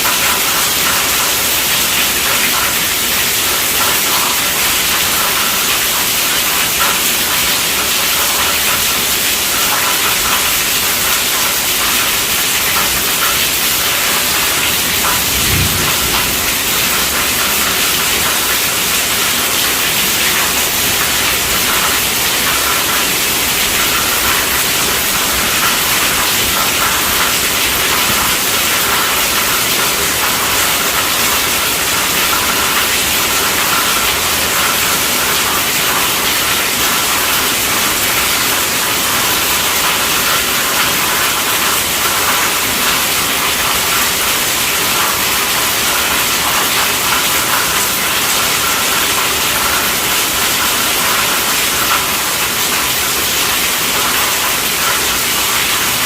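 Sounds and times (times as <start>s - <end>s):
heavy rain on tent roof: 0.0s - 56.0s.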